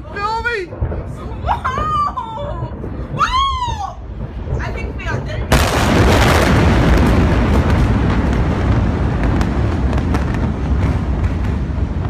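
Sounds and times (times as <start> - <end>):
deep explosion rumble: 0.0 - 12.0.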